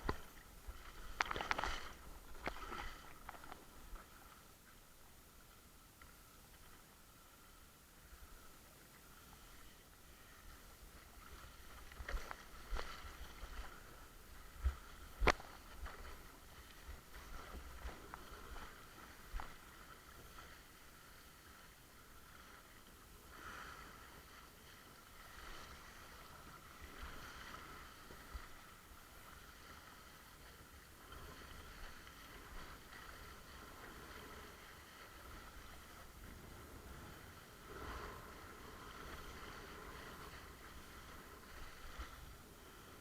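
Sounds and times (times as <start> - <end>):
water swishing and splashing: 0.0 - 43.0.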